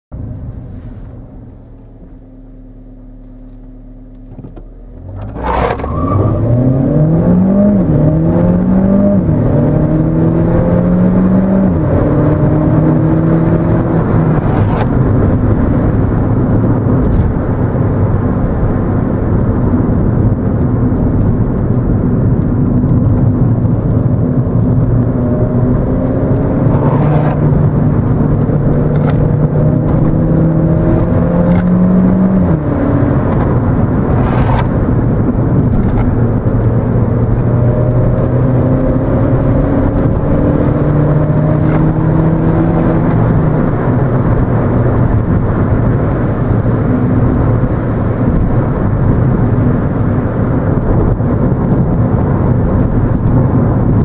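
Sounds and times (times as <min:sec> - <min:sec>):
road and tyre noise: 0:00.1 - 0:54.0
car engine accelerating: 0:00.3 - 0:54.0.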